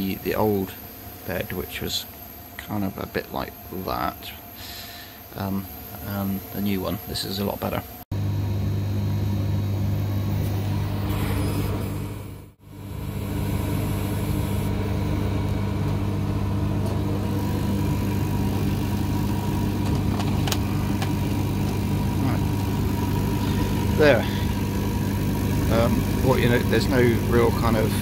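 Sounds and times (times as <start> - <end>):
laser cutter hum: 0.0 - 28.0.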